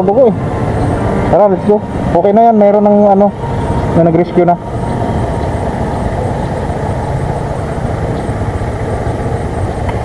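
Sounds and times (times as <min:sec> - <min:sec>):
motorcycle engine rumble: 0:00.0 - 0:10.0
wind buffeting microphone: 0:00.0 - 0:10.0.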